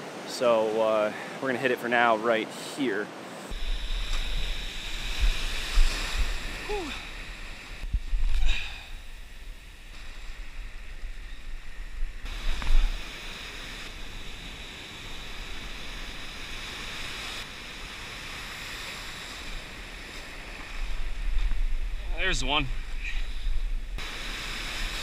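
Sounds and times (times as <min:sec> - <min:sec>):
ocean surf breaking: 0:00.0 - 0:25.0
wind on microphone: 0:03.5 - 0:25.0.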